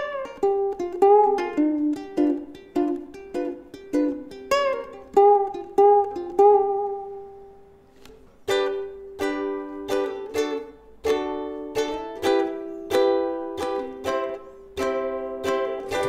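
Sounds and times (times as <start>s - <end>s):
ukulele fingerpicked chords: 0.0s - 16.0s.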